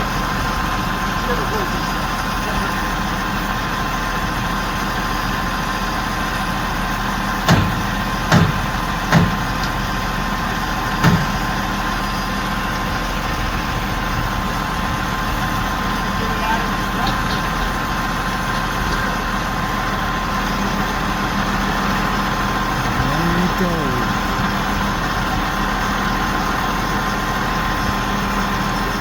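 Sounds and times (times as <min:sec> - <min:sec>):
crane engine humming: 0:00.1 - 0:29.0.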